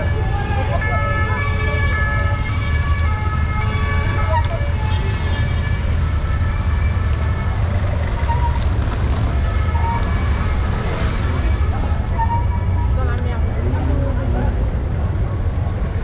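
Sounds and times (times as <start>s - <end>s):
emergency vehicle siren: 0.0s - 16.0s.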